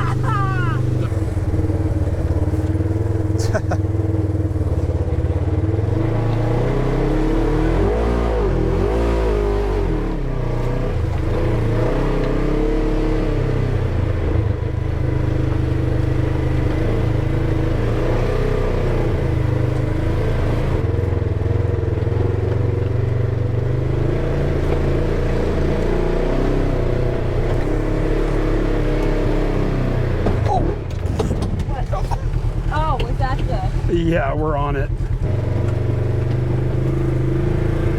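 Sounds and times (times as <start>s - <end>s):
utility vehicle engine running: 0.0s - 37.9s.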